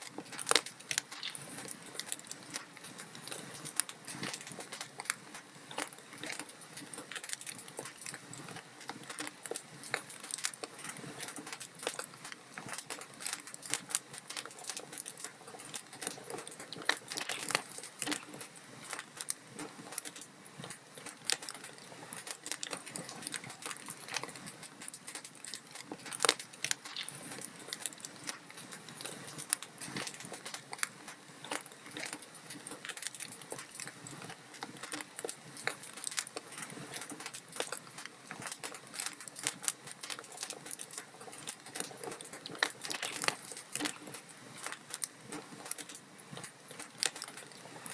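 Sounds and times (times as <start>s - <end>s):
log fire crackling: 0.0s - 47.9s.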